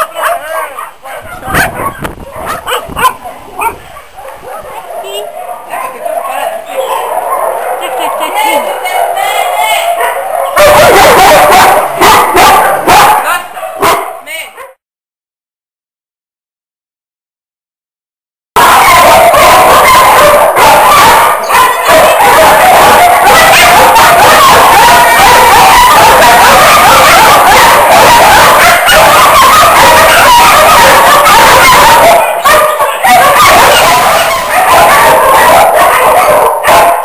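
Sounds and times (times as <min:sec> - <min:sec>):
dogs barking and yelping: 0:00.0 - 0:14.8, 0:18.6 - 0:37.0.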